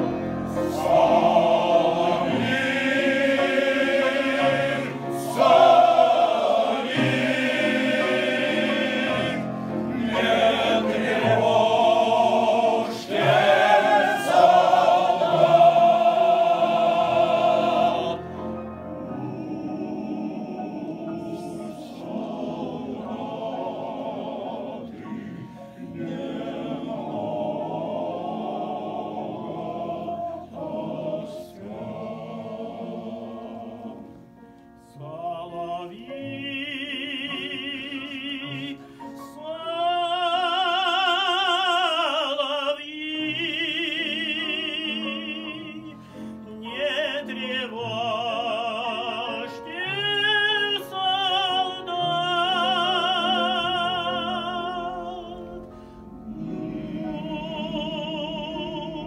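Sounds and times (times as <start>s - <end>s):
male choir singing: 0.0s - 34.2s, 34.8s - 59.0s.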